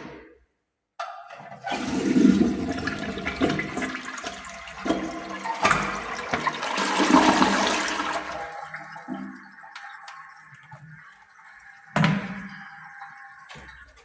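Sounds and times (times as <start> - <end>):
toilet flush valve rushing water: 1.3 - 14.0.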